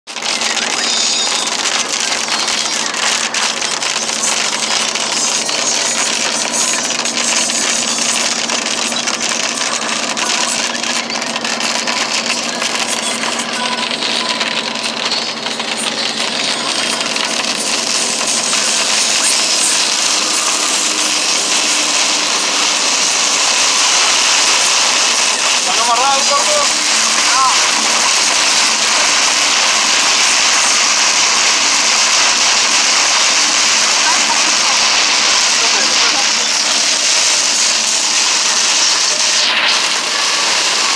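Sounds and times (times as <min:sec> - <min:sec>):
hailstones clattering: 0:00.1 - 0:40.9.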